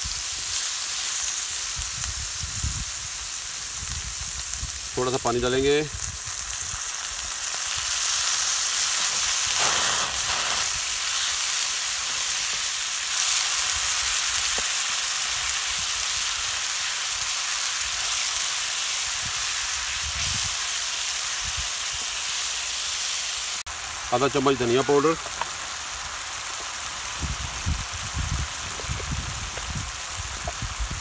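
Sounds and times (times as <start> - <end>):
masala sizzling in oil: 0.0 - 31.0.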